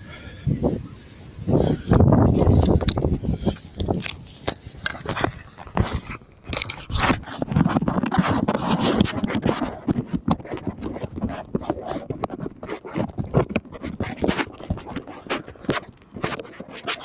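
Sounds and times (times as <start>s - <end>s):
clothing rubbing on microphone: 1.5s - 17.0s.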